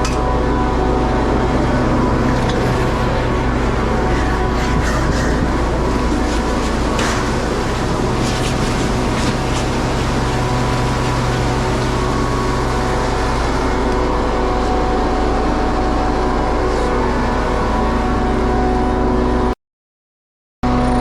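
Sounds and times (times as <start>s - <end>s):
diesel engine droning: 0.0s - 19.6s.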